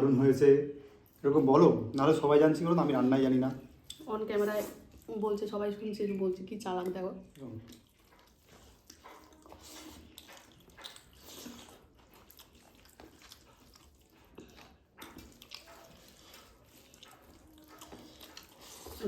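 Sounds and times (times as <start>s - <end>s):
wet chewing sounds: 0.8s - 19.0s.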